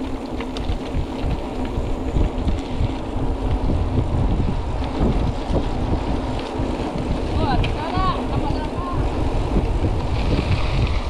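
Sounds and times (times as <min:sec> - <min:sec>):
bike rattles and clicks: 0:00.0 - 0:11.0
bike tyre noise: 0:00.0 - 0:11.0
wind rumbling on microphone: 0:00.0 - 0:11.0.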